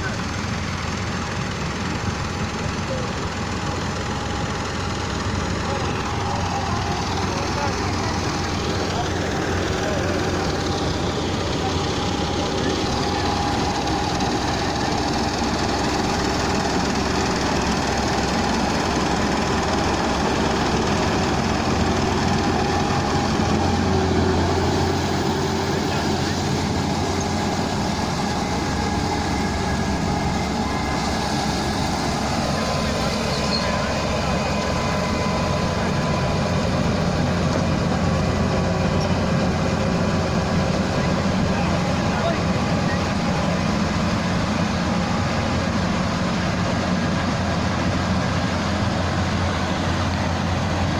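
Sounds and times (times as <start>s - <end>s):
combine harvester running: 0.0s - 50.9s.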